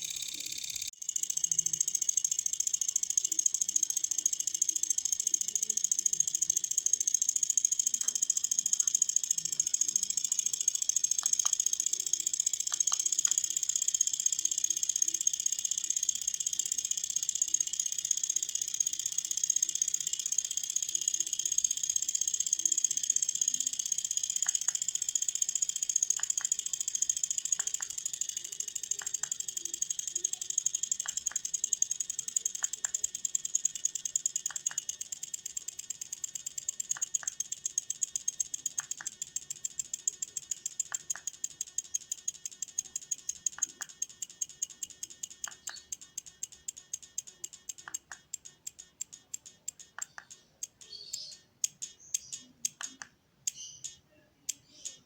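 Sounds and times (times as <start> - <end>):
rapid ticking: 0.0 - 55.0
dull tick: 0.1 - 55.0.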